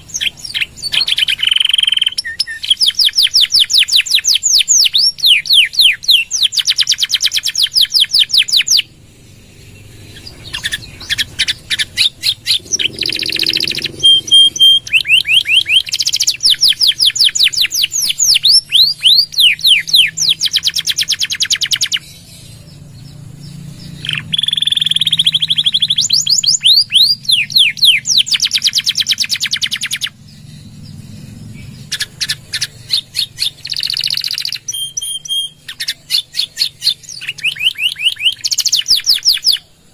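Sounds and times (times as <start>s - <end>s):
whistled bird notes: 0.0s - 39.8s
canary singing in rapid trills: 0.0s - 39.9s.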